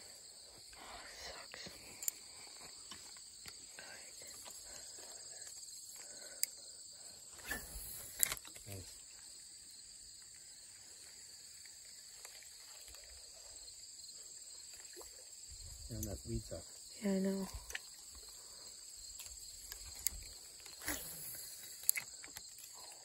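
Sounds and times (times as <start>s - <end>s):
insects chirring in grass: 0.0s - 23.0s.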